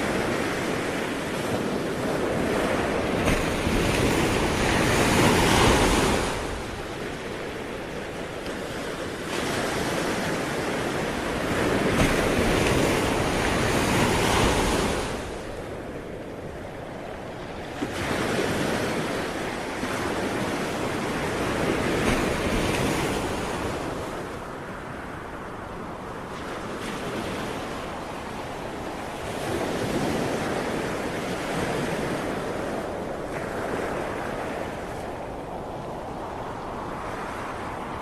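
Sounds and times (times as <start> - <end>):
sea waves breaking on shore: 0.0 - 38.0.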